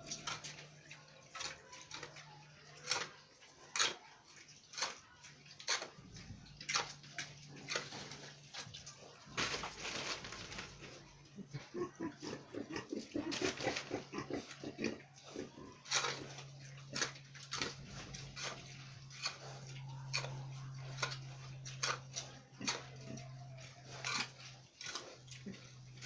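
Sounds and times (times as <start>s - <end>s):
pigs grunting: 0.0s - 26.0s.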